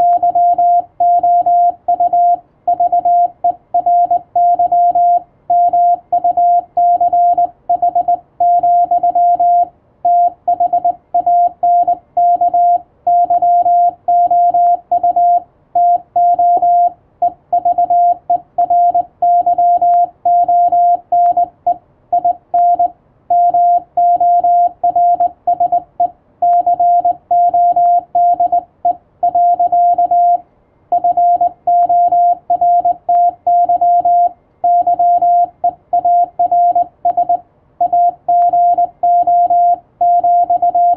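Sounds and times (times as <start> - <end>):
morse code tone: 0.0 - 40.9.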